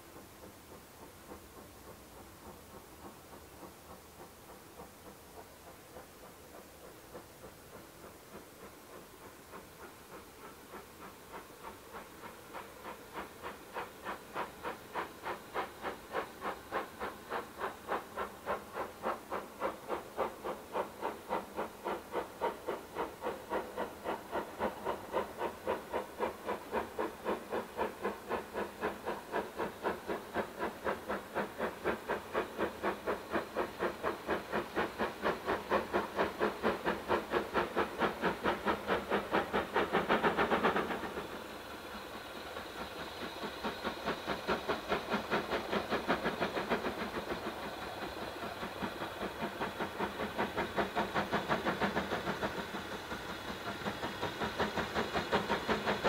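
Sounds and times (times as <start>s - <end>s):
steam locomotive exhaust beating: 0.0s - 56.0s.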